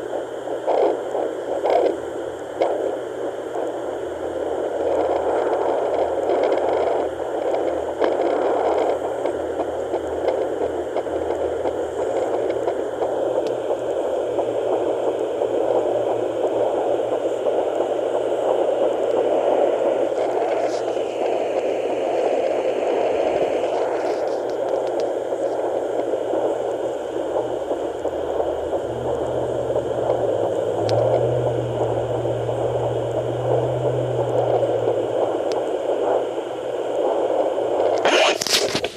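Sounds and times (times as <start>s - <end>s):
low hum: 0.0s - 38.3s
doppler static hiss: 0.0s - 38.9s
probe scratchy rustling: 0.1s - 38.9s.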